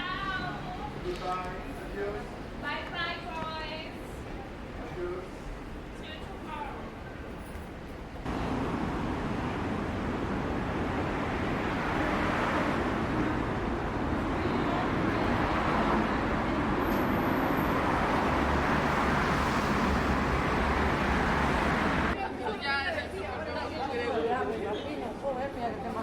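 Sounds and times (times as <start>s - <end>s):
road traffic rumble: 0.0s - 22.2s.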